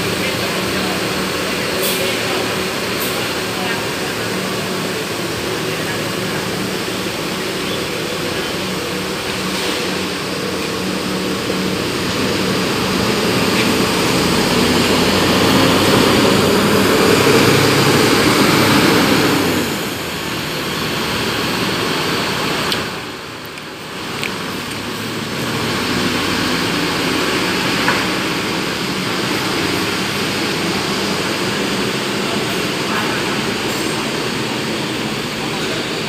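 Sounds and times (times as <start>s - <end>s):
bus diesel engine passing: 0.0s - 36.0s.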